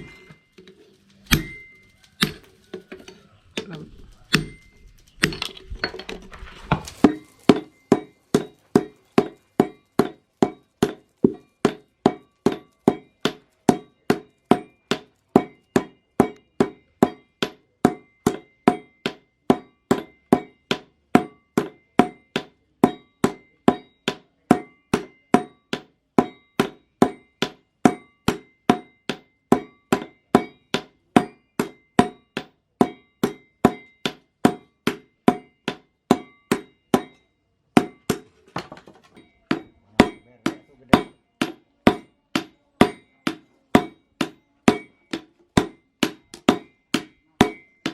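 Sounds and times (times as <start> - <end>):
hammer striking steel on anvil: 0.0 - 6.3, 6.9 - 47.9.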